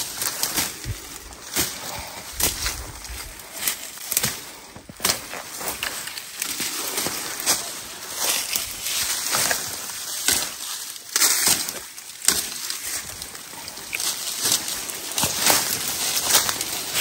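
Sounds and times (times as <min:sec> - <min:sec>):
brush rustling and snapping: 0:00.0 - 0:17.0
crunching footsteps: 0:00.0 - 0:17.0.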